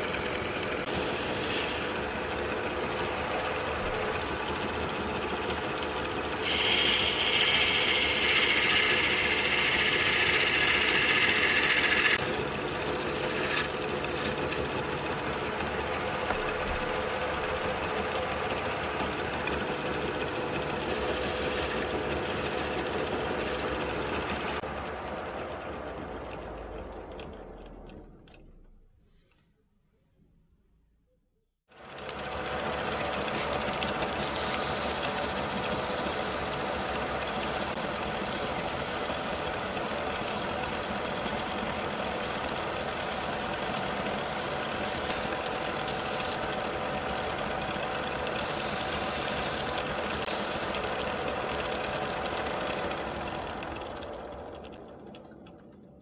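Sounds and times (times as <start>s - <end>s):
turning tool cutting wood: 0.0s - 24.7s, 32.3s - 53.8s
lathe motor hum: 0.0s - 28.2s, 31.7s - 55.6s.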